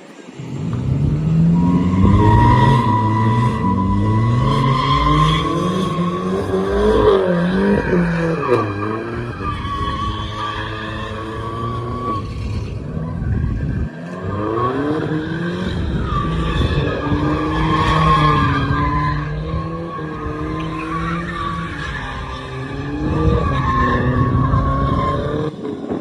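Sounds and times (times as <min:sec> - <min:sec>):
car engine revving: 0:00.4 - 0:25.6
car tires squealing: 0:01.1 - 0:25.9.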